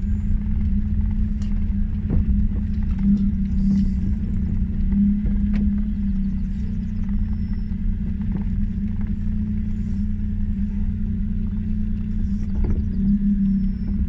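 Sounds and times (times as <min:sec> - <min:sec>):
small car engine droning: 0:00.0 - 0:14.0.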